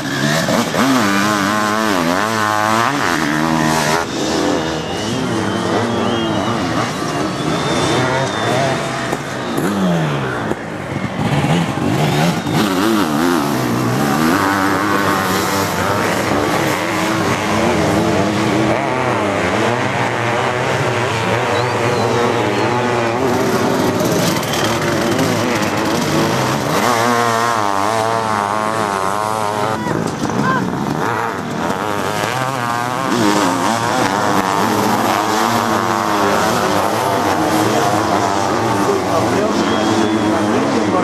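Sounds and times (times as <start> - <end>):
engine revs wavering: 0.0 - 41.0
motorcycle engines racing: 0.0 - 41.0.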